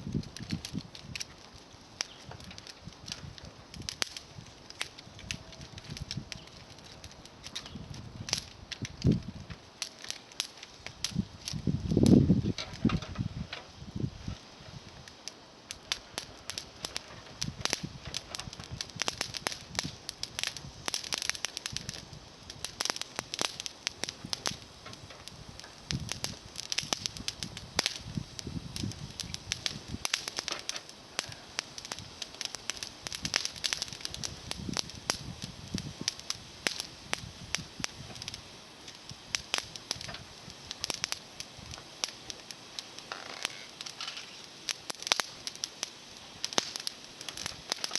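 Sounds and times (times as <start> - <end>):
bonfire crackling and popping: 0.0 - 47.9.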